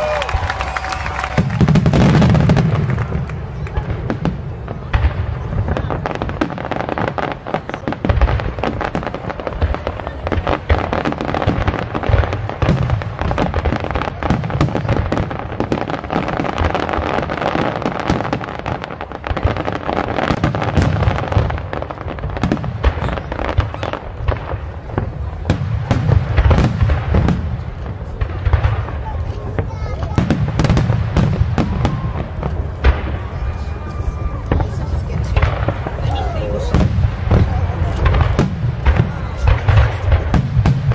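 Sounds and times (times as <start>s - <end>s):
fireworks bursting: 0.0s - 40.9s
sharp cracks and crackling: 0.0s - 40.9s.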